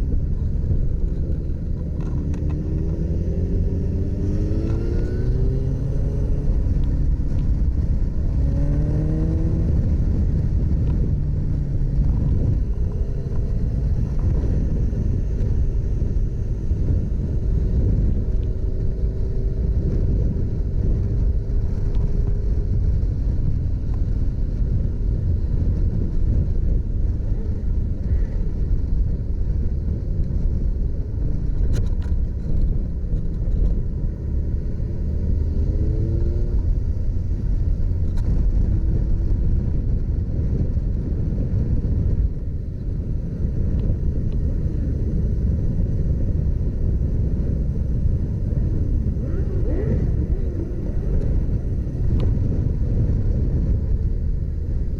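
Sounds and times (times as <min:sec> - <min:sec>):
motorcycle engine rumble: 0:00.0 - 0:54.9
road and wind noise: 0:00.0 - 0:54.9.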